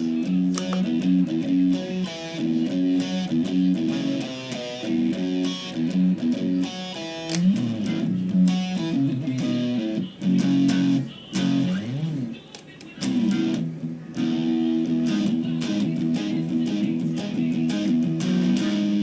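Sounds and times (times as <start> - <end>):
overdriven electric guitar: 0.0 - 19.0.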